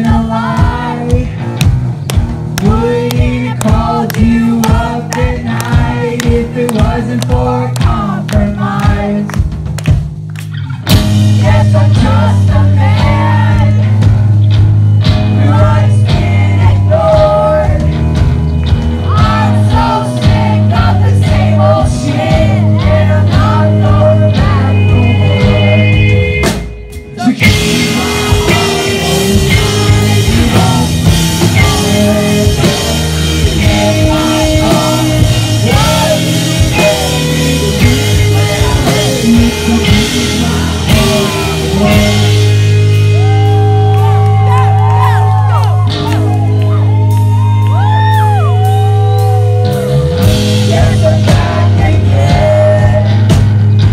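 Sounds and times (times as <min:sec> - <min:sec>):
live rock band playing: 0:00.0 - 0:53.9
person singing: 0:02.6 - 0:09.4, 0:11.2 - 0:14.0, 0:19.1 - 0:53.4.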